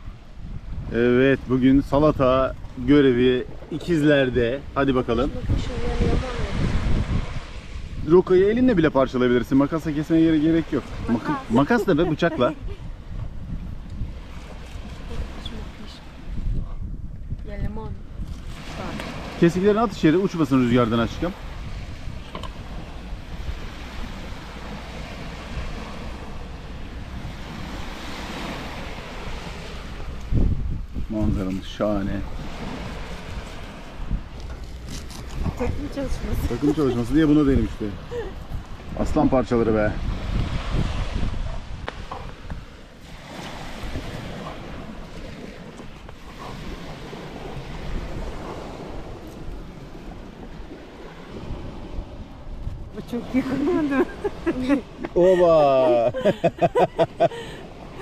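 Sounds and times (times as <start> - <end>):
sea waves washing onto sand: 0.0 - 13.0, 13.7 - 16.7, 17.4 - 58.0
surf on beach: 0.0 - 58.0
wind across microphone: 0.0 - 58.0.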